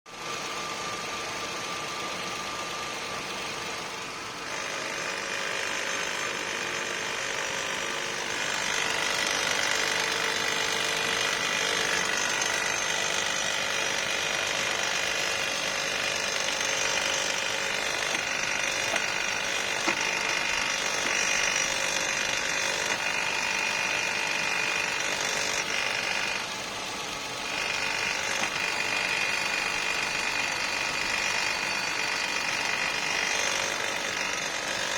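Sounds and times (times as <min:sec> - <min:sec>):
engine whine and rattle: 0:00.1 - 0:34.9.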